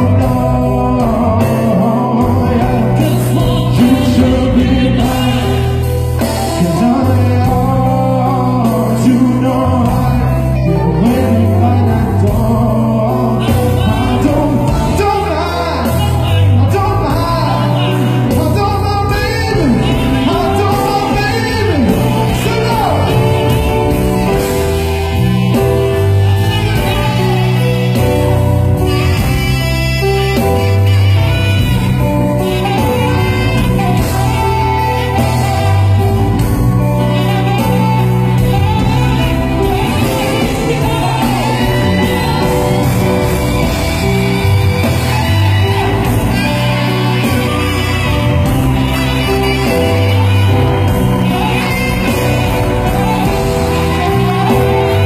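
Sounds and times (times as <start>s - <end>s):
lead singer singing: 0.0s - 55.0s
live band playing: 0.0s - 55.0s.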